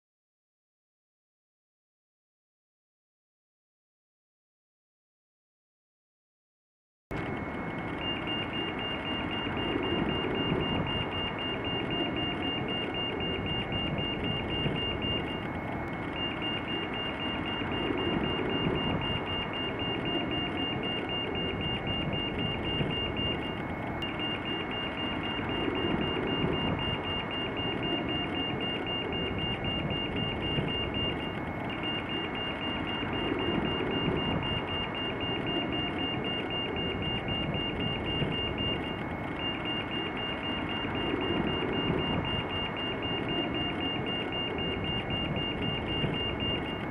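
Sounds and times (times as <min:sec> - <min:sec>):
pedestrian crossing signal beeping: 0:08.0 - 0:46.9.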